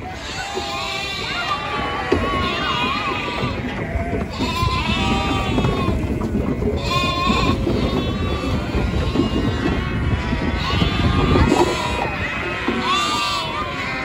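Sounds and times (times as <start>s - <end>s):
lambs bleating: 0.1s - 14.0s.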